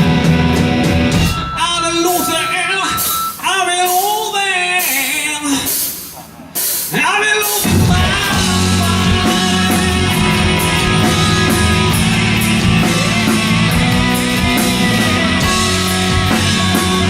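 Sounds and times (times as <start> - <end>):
hard rock band playing live: 0.0 - 17.0.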